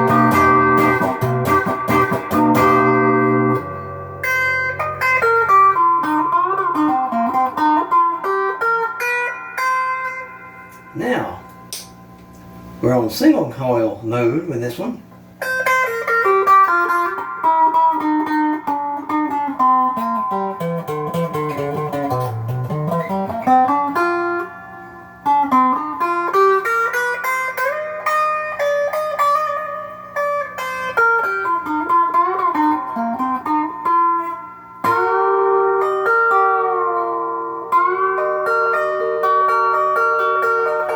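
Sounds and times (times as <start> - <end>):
electric guitar lead lines: 0.0 - 40.9.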